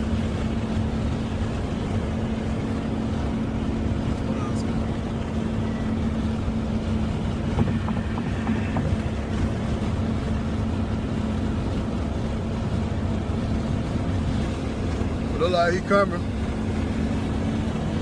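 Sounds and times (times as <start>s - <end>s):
car engine cruising: 0.0s - 18.0s
road noise: 0.0s - 18.0s.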